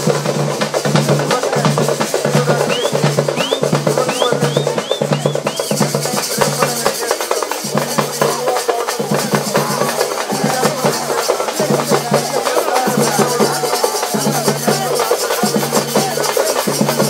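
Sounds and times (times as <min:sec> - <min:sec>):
fast drum-led dance music: 0:00.0 - 0:17.0.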